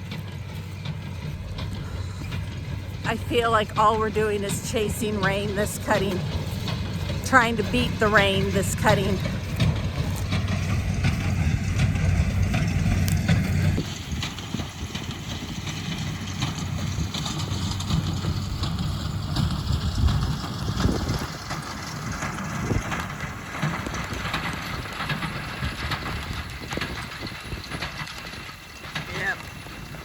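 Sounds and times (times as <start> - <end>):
tractor and hay baler rumbling: 0.0 - 30.0.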